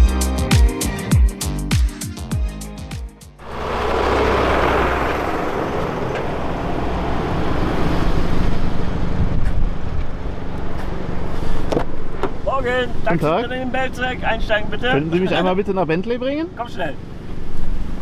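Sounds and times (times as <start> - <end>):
car engine hum: 3.4 - 18.0.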